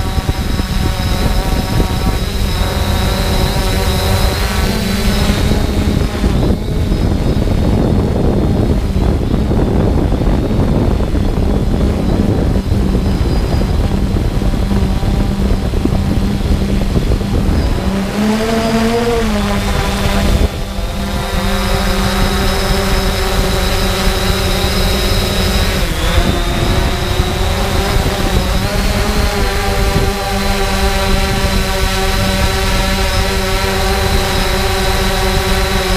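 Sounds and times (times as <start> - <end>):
drone propellers humming: 0.0 - 35.9
wind buffeting microphone: 0.0 - 35.9.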